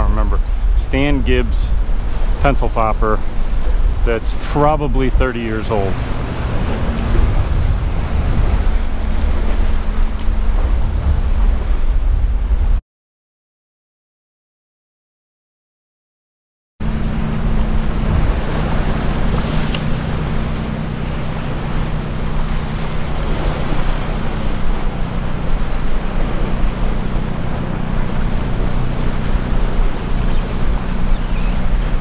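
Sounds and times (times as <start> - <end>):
waves splashing over rocks: 0.0 - 12.7, 16.9 - 32.0
wind buffeting microphone: 0.0 - 12.8, 16.8 - 32.0.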